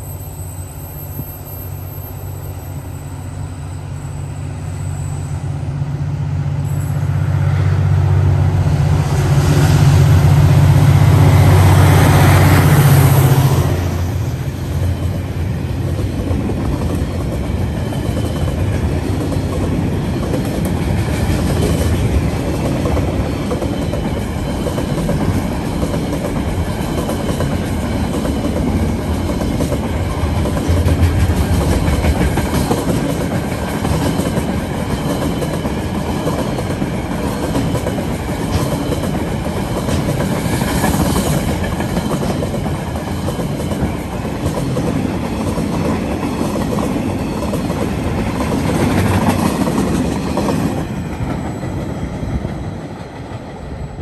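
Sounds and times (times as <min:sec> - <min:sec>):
train wheels clacking over rails: 0:06.6 - 0:54.0.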